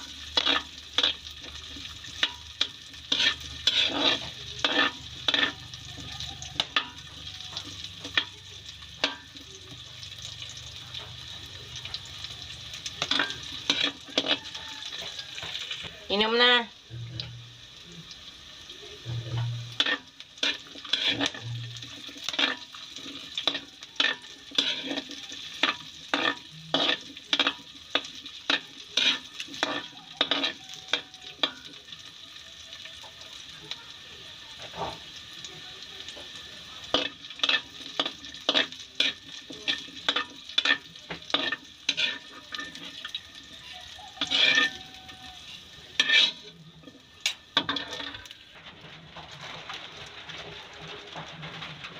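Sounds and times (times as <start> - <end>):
metal spatula scraping a wok: 0.0 - 17.4, 19.0 - 32.0, 36.8 - 51.9
vegetables sizzling in oil: 0.0 - 51.9.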